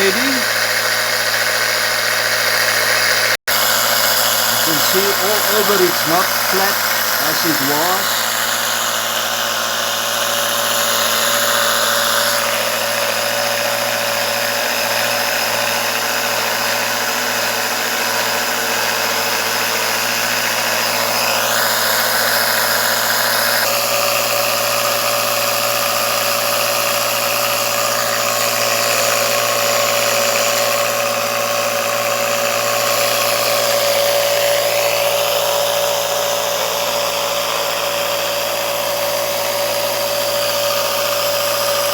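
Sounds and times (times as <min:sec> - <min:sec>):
electric air compressor running: 0:00.0 - 0:41.9.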